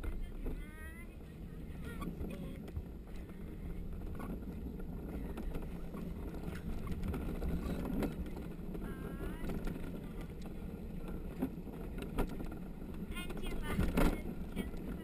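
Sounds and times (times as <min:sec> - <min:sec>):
cart knocking and rattling: 0:00.0 - 0:15.0
wheels rumbling on concrete: 0:00.0 - 0:15.0.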